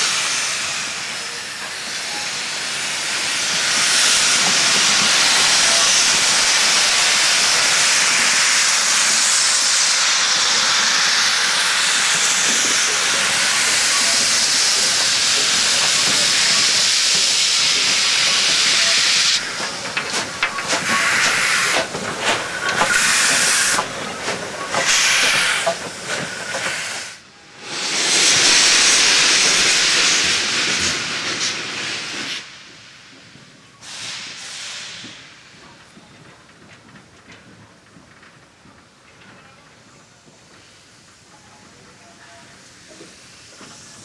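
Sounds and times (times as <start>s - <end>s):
steam locomotive venting steam: 0.0s - 36.2s, 39.8s - 44.0s.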